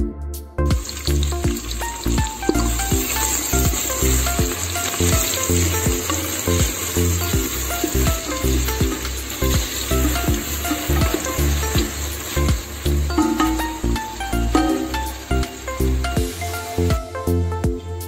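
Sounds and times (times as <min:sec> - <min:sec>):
onion sizzling in pot: 0:00.7 - 0:18.0.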